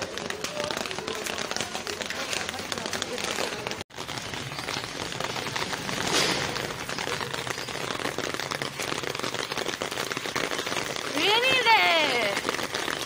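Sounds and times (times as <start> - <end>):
rain on concrete roof: 0.0 - 13.0.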